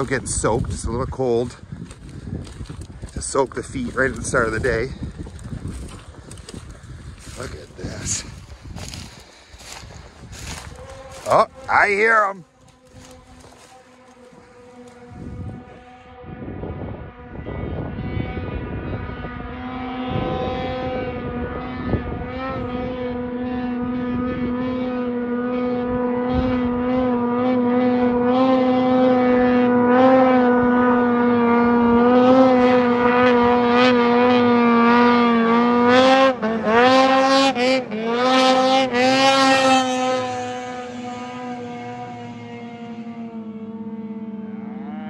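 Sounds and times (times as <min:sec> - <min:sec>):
snowmobile engine at high revs: 0:00.0 - 0:45.0.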